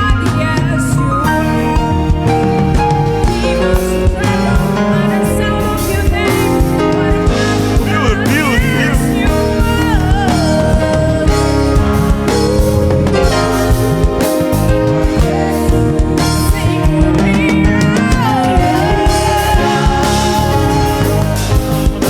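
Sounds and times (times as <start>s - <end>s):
gospel band and choir: 0.0s - 22.0s
solo vocal run: 3.8s - 22.0s.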